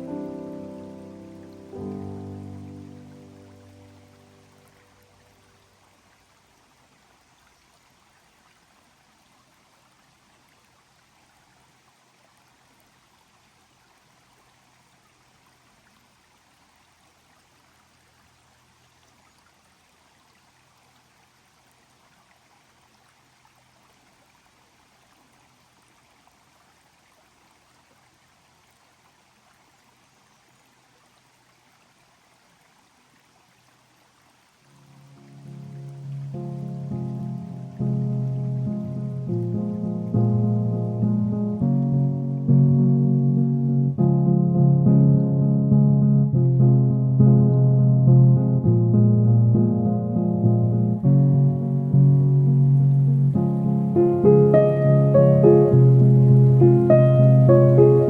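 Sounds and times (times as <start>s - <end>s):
faint hiss of water: 0.0s - 44.0s, 50.7s - 58.0s.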